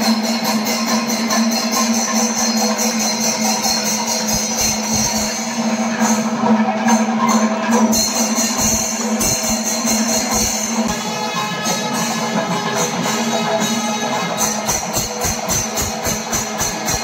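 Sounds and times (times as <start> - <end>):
drums beating: 0.0 - 17.0
fast cymbal strokes: 0.0 - 17.0
steady held tone: 0.0 - 17.0.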